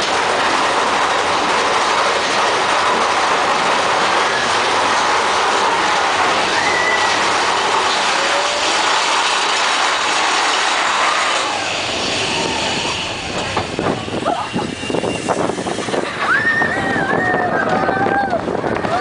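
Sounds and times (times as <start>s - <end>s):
roller coaster rattling and rumbling: 0.0s - 19.0s
wheel squeals: 1.1s - 19.0s.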